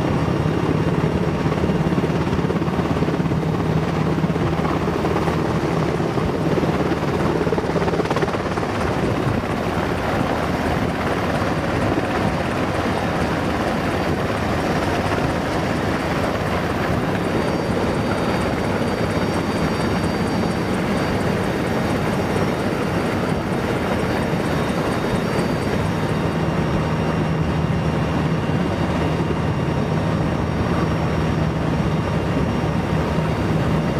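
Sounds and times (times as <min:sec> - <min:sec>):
turboprop engines droning: 0:00.0 - 0:33.9.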